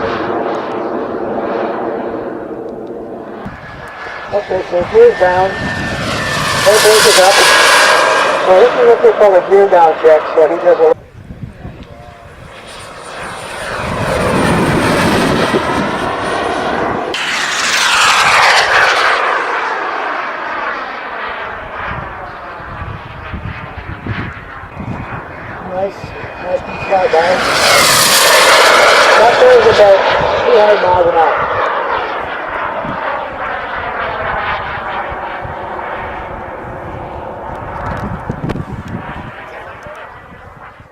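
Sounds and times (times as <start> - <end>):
model jet turbine whine: 0.0 - 40.9.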